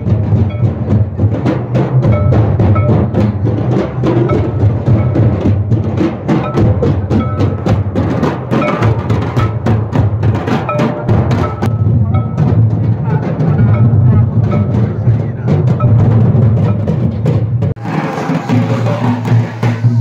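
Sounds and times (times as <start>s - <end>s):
rapid drum strokes: 0.0s - 20.0s
steady deep drum: 0.0s - 20.0s.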